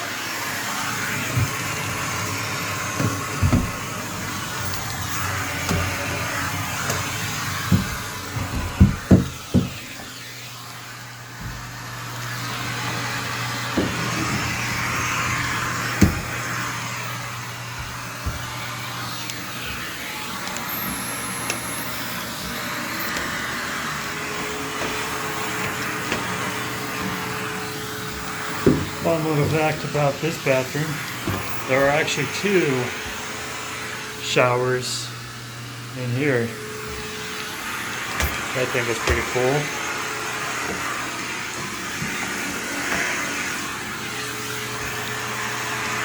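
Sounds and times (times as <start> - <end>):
vacuum suction air rushing: 0.0 - 46.0.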